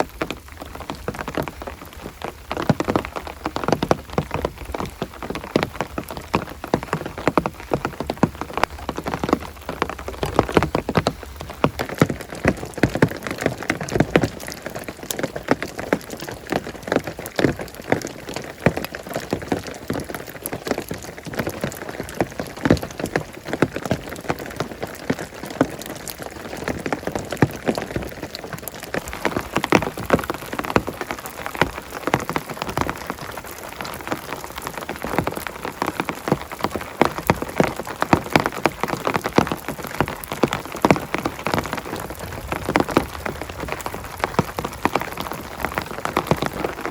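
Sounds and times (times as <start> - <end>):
heavy rain falling: 0.0 - 46.9
raindrops hitting a surface: 0.0 - 46.9.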